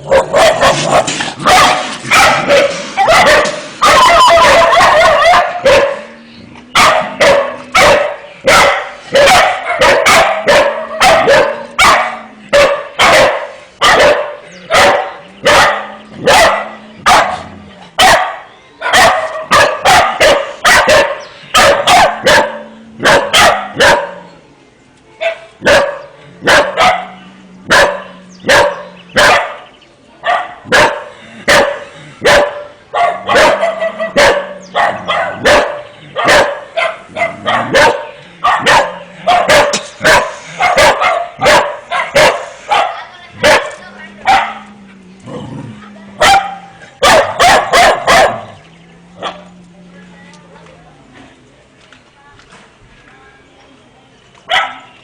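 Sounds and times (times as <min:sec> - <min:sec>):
dogs barking: 0:00.0 - 0:24.3, 0:25.2 - 0:49.6, 0:54.5 - 0:55.0.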